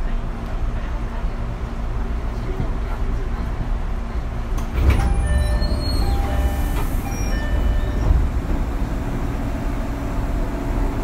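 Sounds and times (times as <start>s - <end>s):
train running gear rumble: 0.1s - 11.0s.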